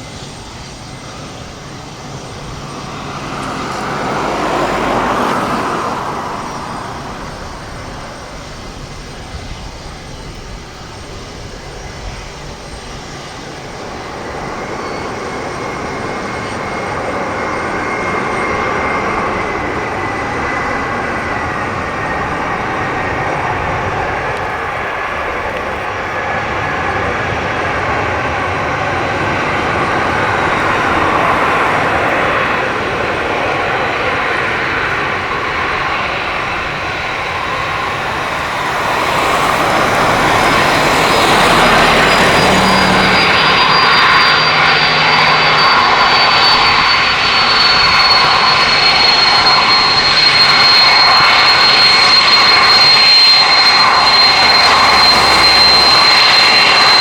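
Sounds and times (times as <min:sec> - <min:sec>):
high fan whine: 0:00.0 - 0:57.0
jet engines: 0:00.0 - 0:57.0.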